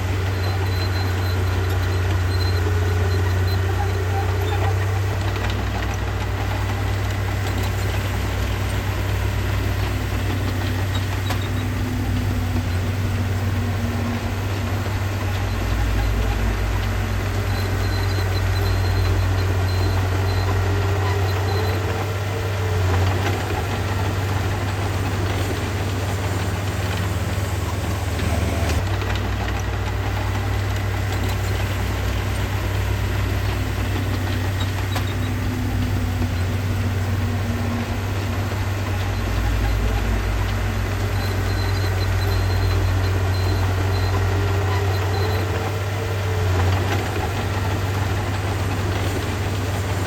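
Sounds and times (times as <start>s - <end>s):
heavy machine engine droning: 0.0s - 50.0s.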